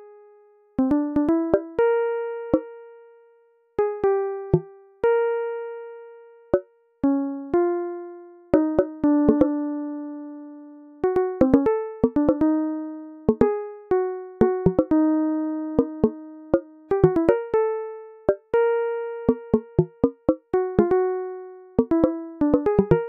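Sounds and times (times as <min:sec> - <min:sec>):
slow keyboard melody: 0:00.0 - 0:23.0.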